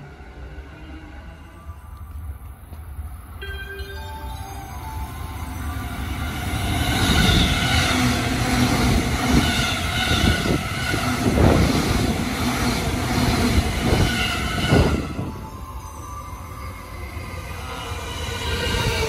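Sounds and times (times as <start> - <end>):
electric train high whine: 0.0 - 19.0
rumble of wheels on rail: 0.0 - 19.0.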